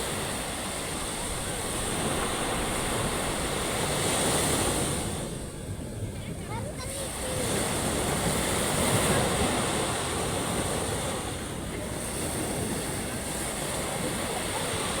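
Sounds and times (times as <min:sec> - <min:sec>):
ocean waves washing onto beach: 0:00.0 - 0:15.0.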